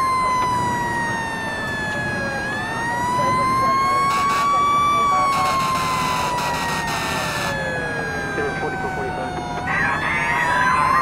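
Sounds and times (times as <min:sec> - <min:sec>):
fire truck siren wailing: 0:00.0 - 0:11.0
lower siren tone: 0:00.0 - 0:11.0.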